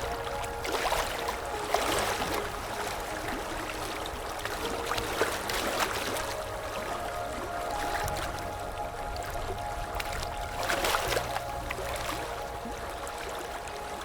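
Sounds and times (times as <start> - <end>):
small water splashes: 0.0 - 14.0.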